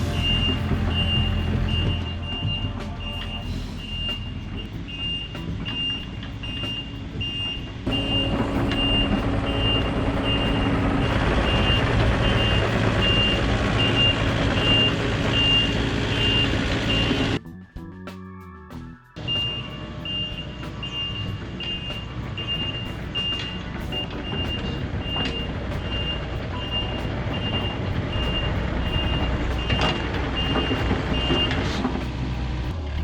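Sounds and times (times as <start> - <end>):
diesel engine running: 0.0 - 17.4, 19.2 - 33.0
excavator travel alarm beeping: 0.0 - 17.4, 19.2 - 31.6.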